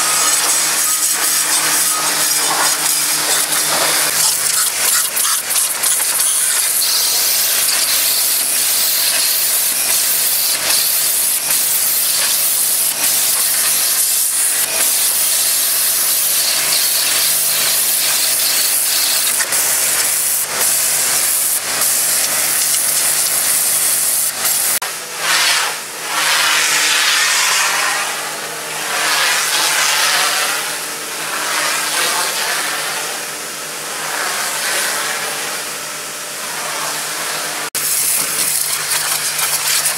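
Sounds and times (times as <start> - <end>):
pressure washer spray hissing: 0.0 - 35.8, 36.6 - 39.9.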